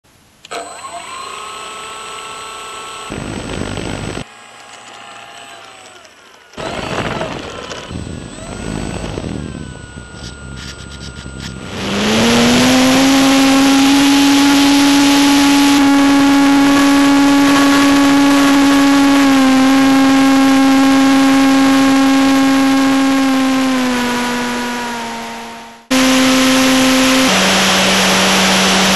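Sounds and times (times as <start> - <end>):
model plane motor humming: 5.5 - 28.9.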